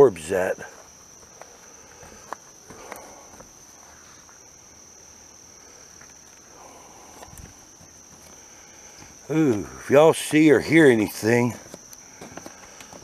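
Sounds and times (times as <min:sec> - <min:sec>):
night insects trilling: 0:00.0 - 0:13.0.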